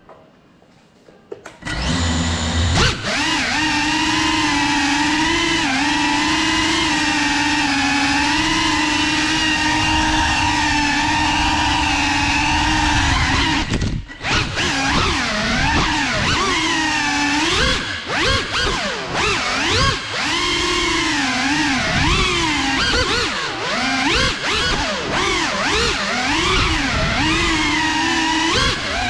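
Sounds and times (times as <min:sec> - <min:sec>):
drone propellers buzzing whine: 0:01.6 - 0:29.0.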